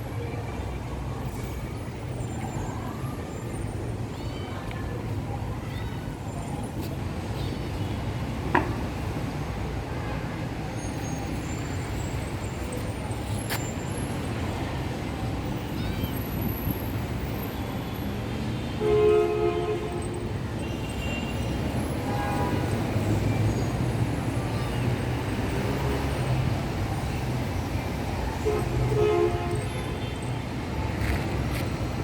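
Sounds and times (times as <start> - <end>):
low rumble of vehicles: 0.0 - 32.0.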